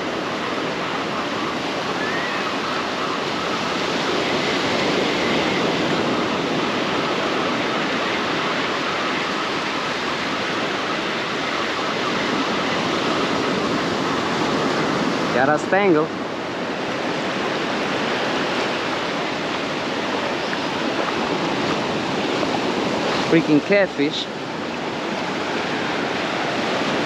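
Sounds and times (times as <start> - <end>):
ocean waves breaking: 0.0 - 27.0.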